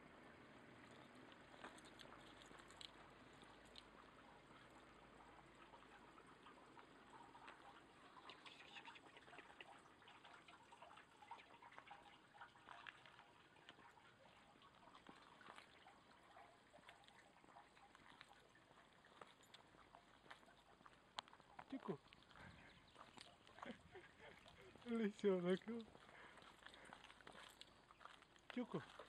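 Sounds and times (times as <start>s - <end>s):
soft ticks and patter: 0.0s - 29.0s.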